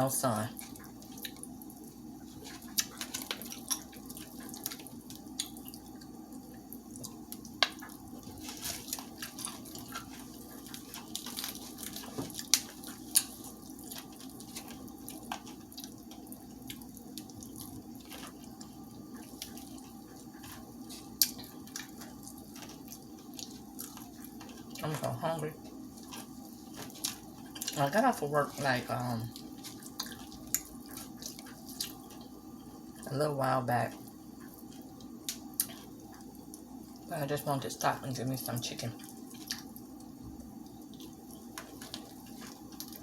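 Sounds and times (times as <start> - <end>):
steady low hum: 0.0 - 43.0
crunching fried chicken: 0.4 - 33.0, 33.9 - 36.7, 38.9 - 43.0.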